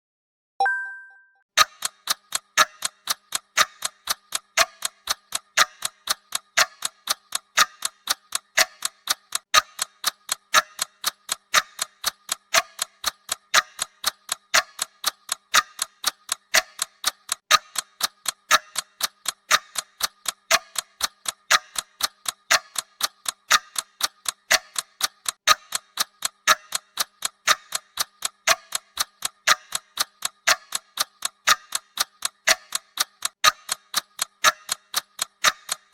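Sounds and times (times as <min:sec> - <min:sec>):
clock ticking: 0:01.6 - 0:35.9.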